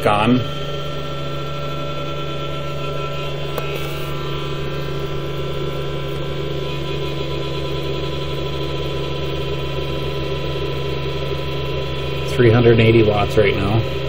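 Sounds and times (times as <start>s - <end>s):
cooling fans droning: 0.0s - 14.0s
power inverter electrical hum: 0.0s - 14.0s.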